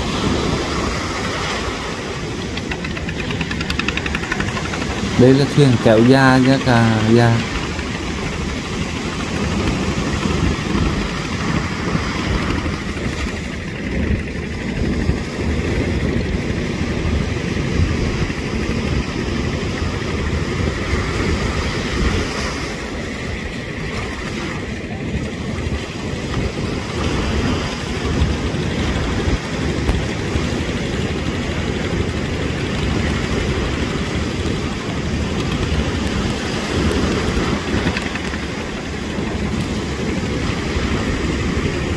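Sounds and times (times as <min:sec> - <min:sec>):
wind on microphone: 0:00.0 - 0:41.9.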